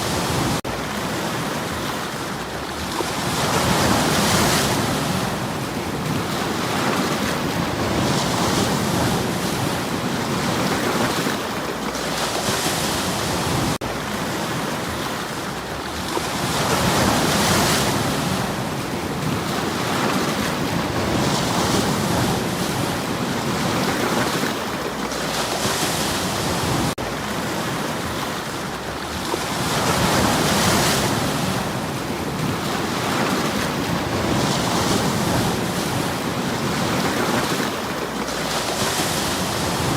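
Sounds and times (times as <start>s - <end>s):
waves breaking on stony shore: 0.0s - 39.9s.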